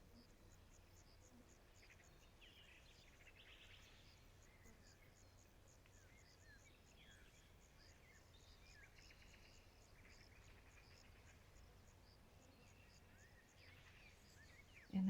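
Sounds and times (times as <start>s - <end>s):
birds singing trills: 1.8s - 15.0s.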